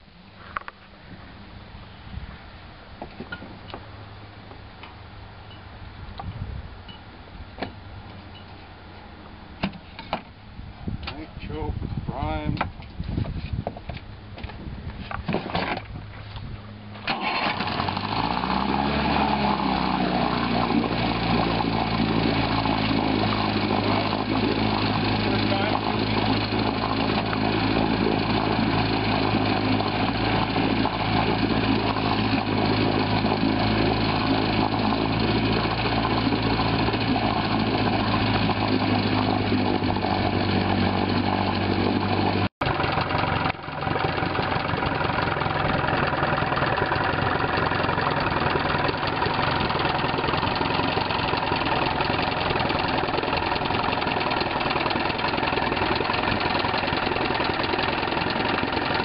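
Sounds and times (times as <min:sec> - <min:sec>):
outboard motor running: 0:11.4 - 0:59.0.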